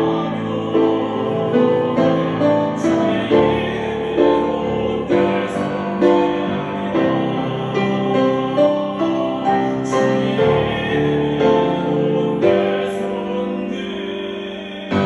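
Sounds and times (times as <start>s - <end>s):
slow praise song with piano: 0.0s - 15.0s.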